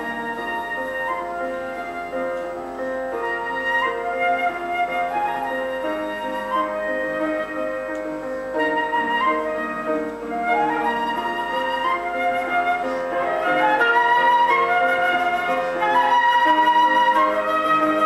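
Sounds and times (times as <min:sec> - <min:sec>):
flute melody: 0:00.0 - 0:18.0
keyboard chords: 0:00.0 - 0:18.0.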